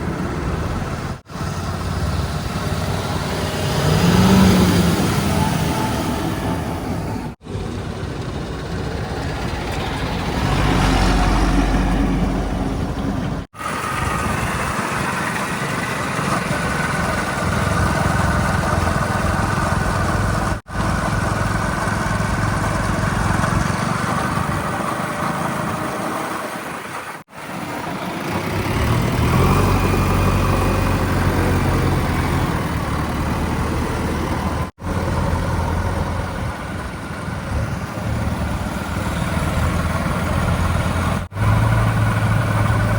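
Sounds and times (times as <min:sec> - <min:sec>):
diesel engines rumbling: 0:00.0 - 0:42.9.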